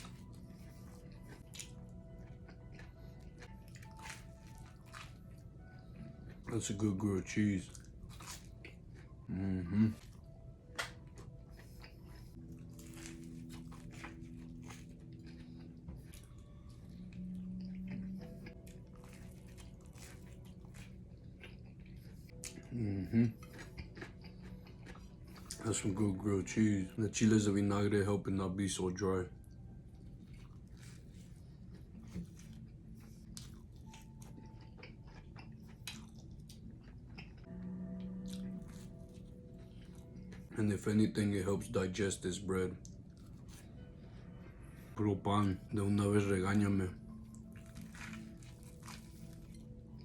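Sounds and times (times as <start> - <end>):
person chewing: 0.0 - 6.9, 7.7 - 25.9, 29.4 - 40.6, 42.8 - 44.0, 47.0 - 50.0.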